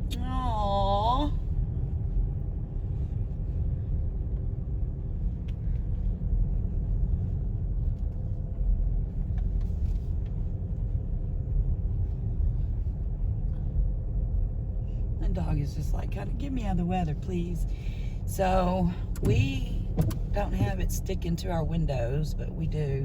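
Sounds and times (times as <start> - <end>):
car driving over snow rumble: 0.0 - 23.0
faint engine hum: 0.0 - 23.0.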